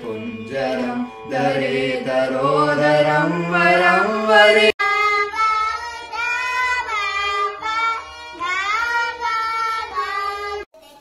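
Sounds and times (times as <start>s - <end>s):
girls singing together: 0.0s - 10.7s.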